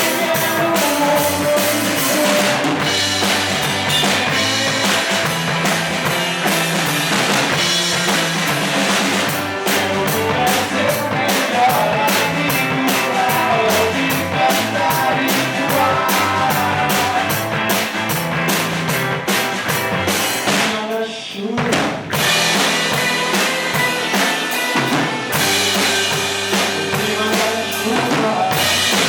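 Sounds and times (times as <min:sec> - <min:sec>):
drum kit beat: 0:00.0 - 0:29.0
rock band playing live: 0:00.0 - 0:29.0.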